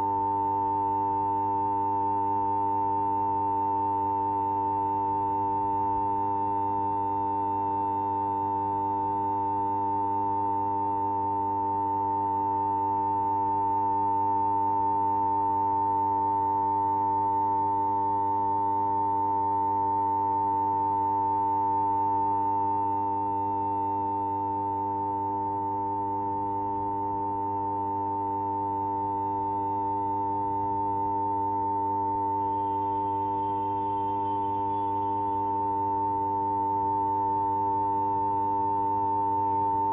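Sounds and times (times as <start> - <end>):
steady high-pitched hum: 0.0 - 39.9.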